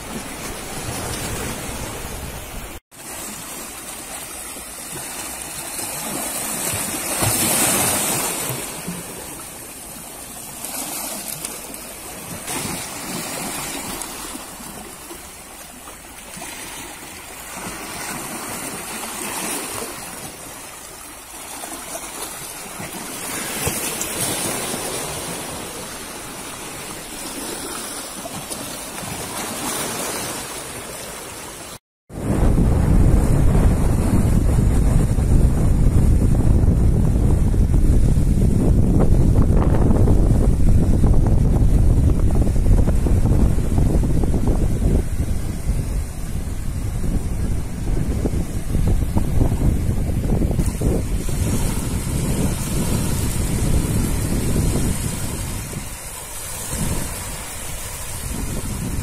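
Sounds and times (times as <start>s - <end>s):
sea water washing over boulders: 0.0s - 59.0s.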